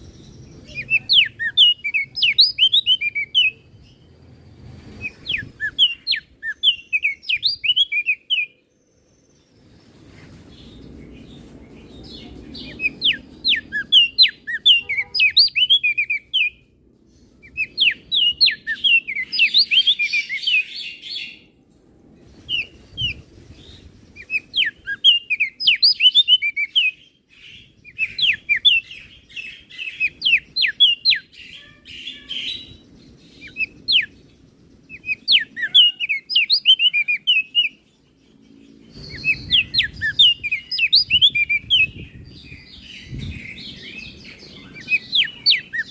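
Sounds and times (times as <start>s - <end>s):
bird singing high chirps: 0.0s - 21.5s, 22.3s - 45.9s.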